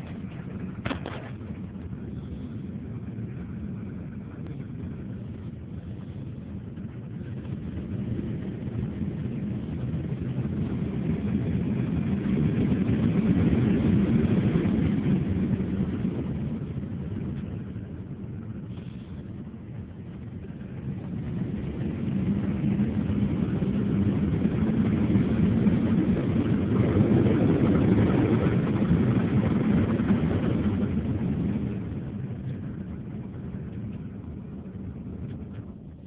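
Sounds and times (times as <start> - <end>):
blower fan rush of air: 0.0 - 36.0.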